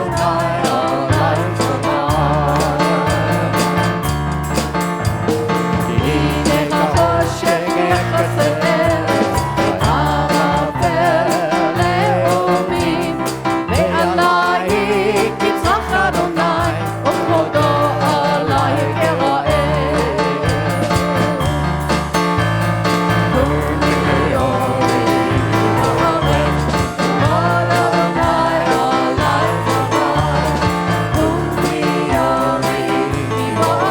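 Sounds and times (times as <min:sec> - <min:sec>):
worship singing with band: 0:00.0 - 0:33.9.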